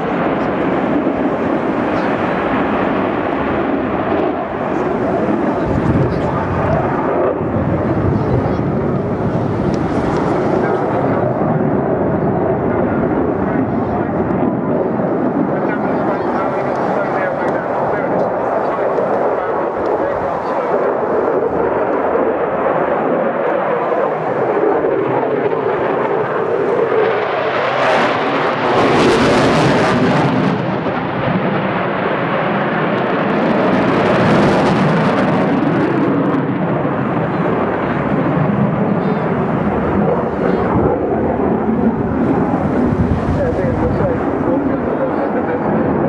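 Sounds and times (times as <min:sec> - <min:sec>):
jet engine roar: 0:00.0 - 0:46.0.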